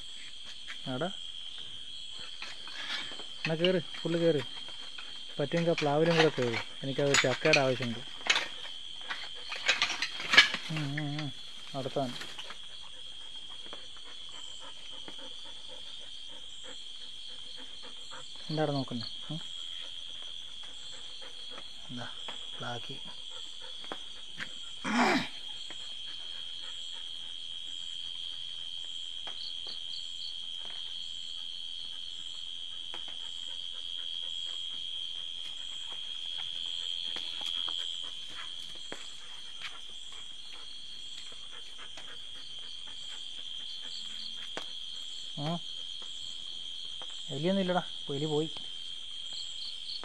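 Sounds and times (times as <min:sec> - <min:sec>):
crickets and insects trilling: 0:00.0 - 0:50.0.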